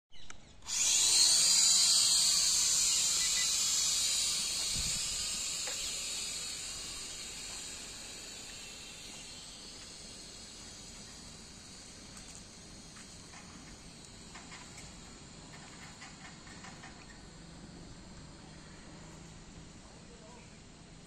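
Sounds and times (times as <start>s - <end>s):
toy drone motors whining: 0.2s - 19.6s.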